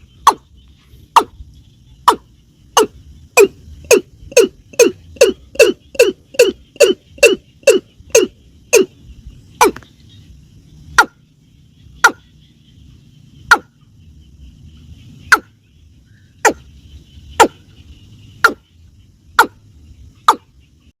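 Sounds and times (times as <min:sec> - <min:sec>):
faint background hum: 0:00.0 - 0:20.9.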